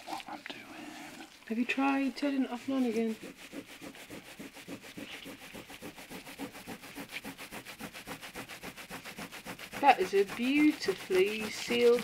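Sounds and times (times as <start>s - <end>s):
cloth rubbing on vinyl dashboard: 1.5s - 12.0s.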